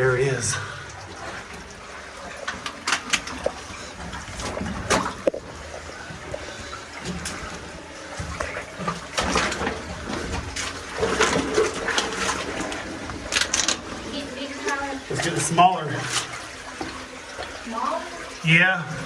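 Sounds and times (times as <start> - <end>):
water trickling in cave: 0.0 - 19.0.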